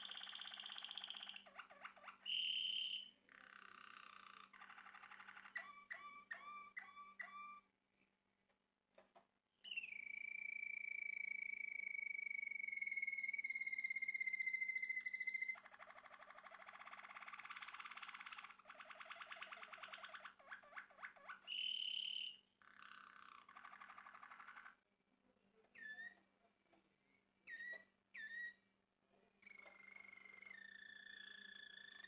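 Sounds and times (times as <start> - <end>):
canary singing: 0.0 - 7.7, 9.7 - 24.8, 25.8 - 26.2, 27.1 - 28.7, 29.4 - 32.0.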